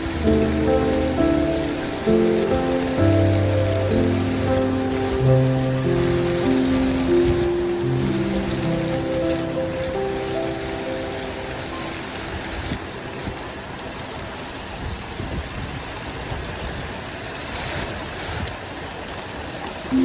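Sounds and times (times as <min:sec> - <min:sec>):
rain hissing: 0:00.0 - 0:18.8.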